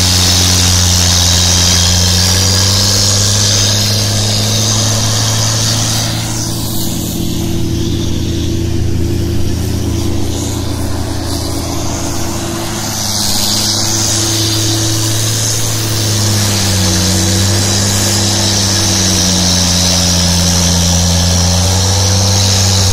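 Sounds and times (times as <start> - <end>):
diesel engine humming: 0.0 - 22.9
hiss of thrown snow: 0.0 - 22.9.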